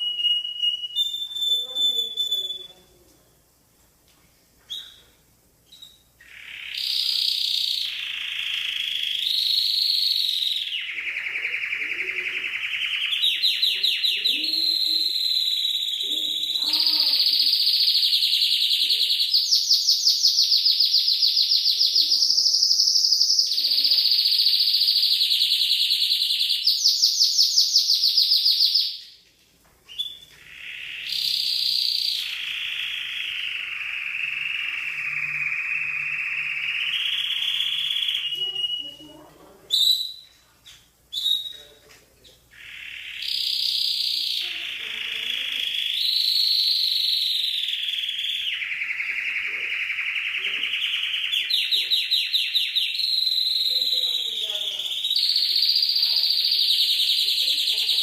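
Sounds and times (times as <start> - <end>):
canary singing trills: 0.0 - 3.0, 4.6 - 29.2, 29.9 - 58.0.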